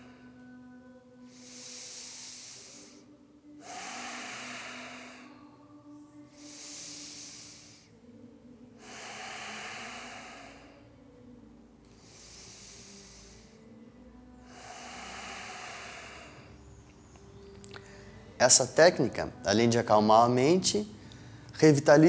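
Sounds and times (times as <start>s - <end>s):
man breathing slowly and deeply: 0.0s - 11.3s, 11.9s - 18.4s.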